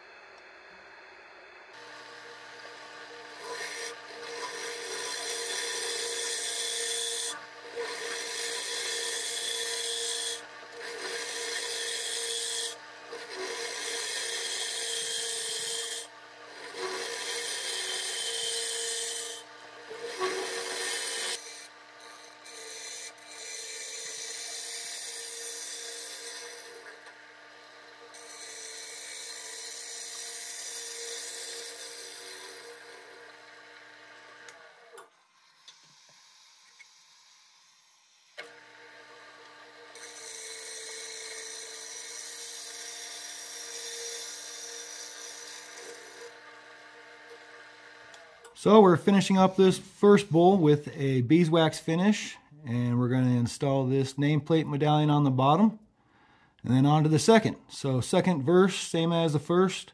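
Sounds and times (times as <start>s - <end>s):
wood lathe humming: 0.0s - 51.4s.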